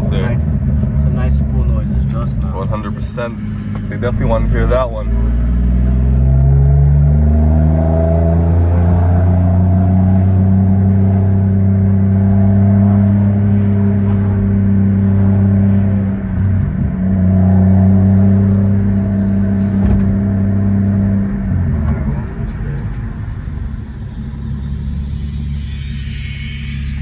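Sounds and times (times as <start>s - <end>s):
turbocharged car engine running: 0.0s - 27.0s.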